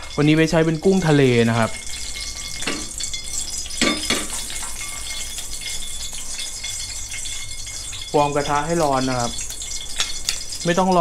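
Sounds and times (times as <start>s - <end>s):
metal spoon clinking: 0.0s - 11.0s
oil hissing in a pan: 0.0s - 11.0s.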